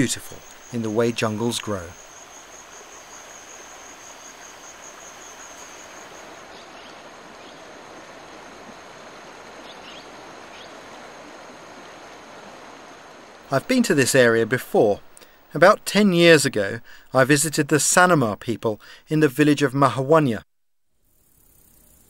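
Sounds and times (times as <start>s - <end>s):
high insect drone: 0.0s - 17.4s, 21.0s - 22.0s
steady hiss: 0.0s - 20.1s, 21.0s - 22.0s.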